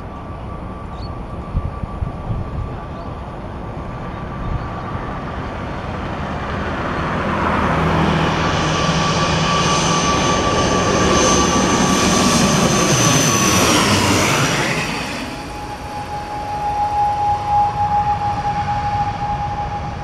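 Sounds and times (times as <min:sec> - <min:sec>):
turboprop airplane approaching: 0:00.0 - 0:20.0.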